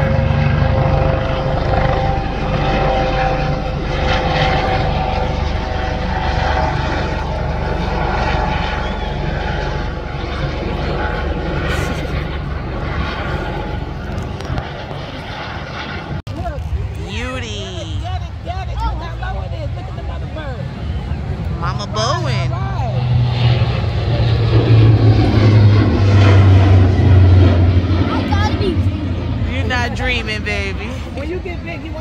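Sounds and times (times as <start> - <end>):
aircraft engine drone: 0.0 - 32.0.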